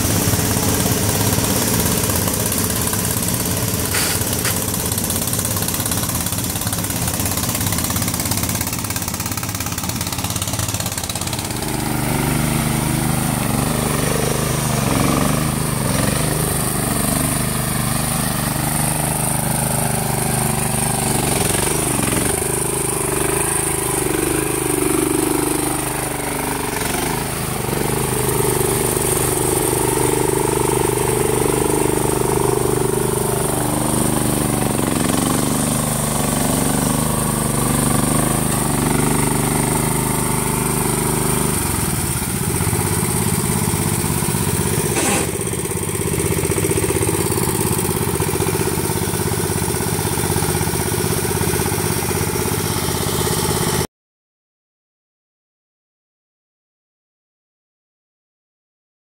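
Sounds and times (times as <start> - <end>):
lawn tractor engines running: 0.0 - 53.9.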